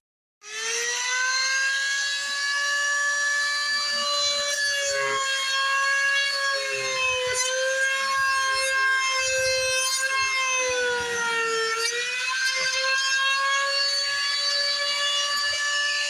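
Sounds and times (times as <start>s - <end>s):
electric router whining: 0.4s - 16.0s.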